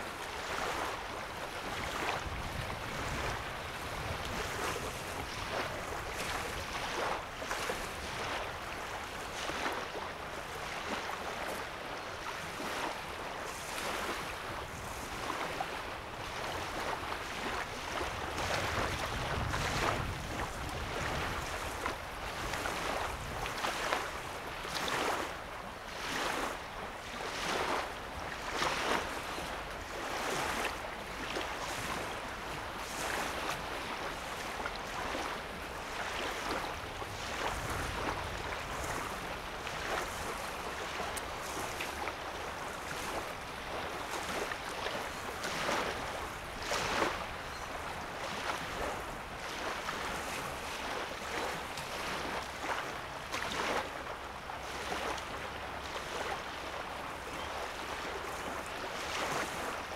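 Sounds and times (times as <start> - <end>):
waves lapping on sandy shore: 0.0 - 59.9.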